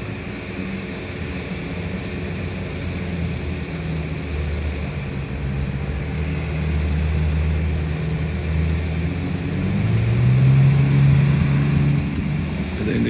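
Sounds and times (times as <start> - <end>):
diesel engine running and revving: 0.0 - 13.0.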